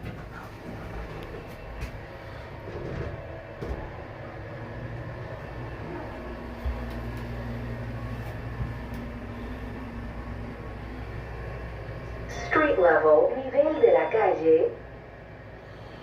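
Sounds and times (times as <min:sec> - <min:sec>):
elevator rumble and hum: 0:00.0 - 0:16.0.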